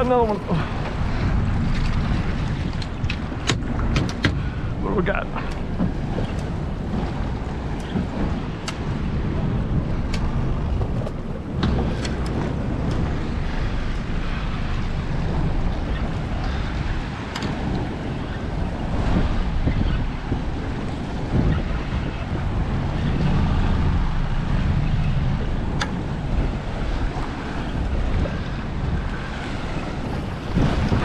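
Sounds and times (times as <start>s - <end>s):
water slapping boat: 0.0s - 31.0s
wind buffeting microphone: 0.0s - 31.0s.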